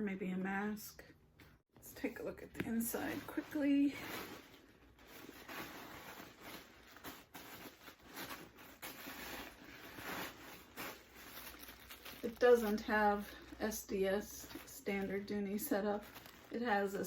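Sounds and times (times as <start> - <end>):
leather handbag rustling: 3.2 - 17.0.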